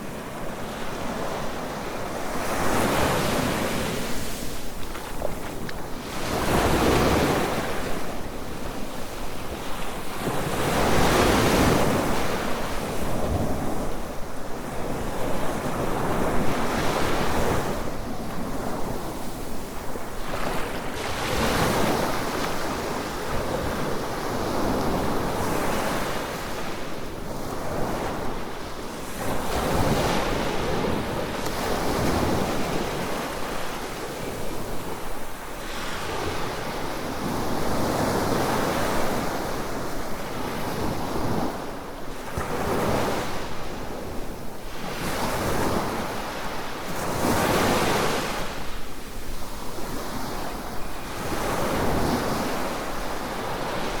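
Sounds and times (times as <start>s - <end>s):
waves breaking on beach: 0.0s - 54.0s
wind: 0.0s - 54.0s.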